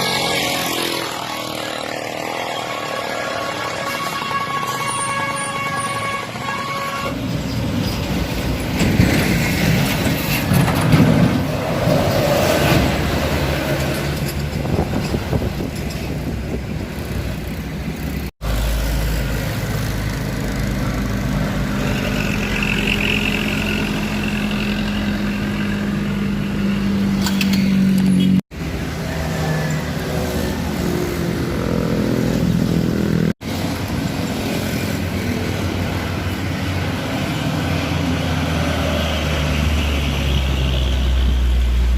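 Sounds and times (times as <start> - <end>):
road noise: 0.0 - 41.9.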